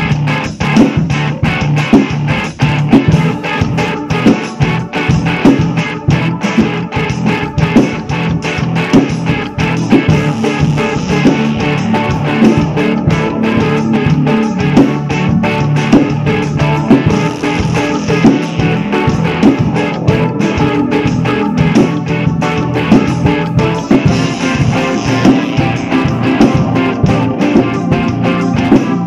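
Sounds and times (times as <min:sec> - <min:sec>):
electric guitar rock track: 0:00.0 - 0:29.0
rock drum kit: 0:00.0 - 0:29.0.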